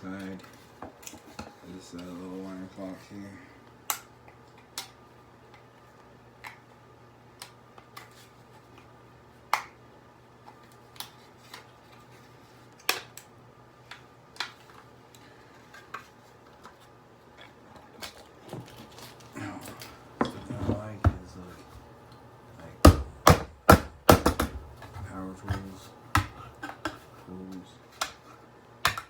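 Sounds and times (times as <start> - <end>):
faint low hum: 0.0 - 28.9.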